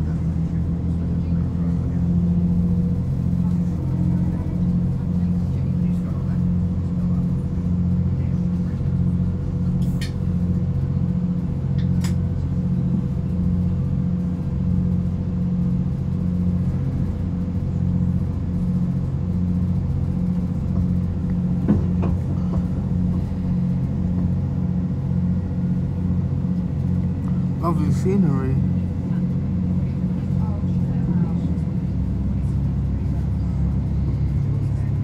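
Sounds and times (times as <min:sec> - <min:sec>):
train engine and wheels droning: 0:00.0 - 0:35.0.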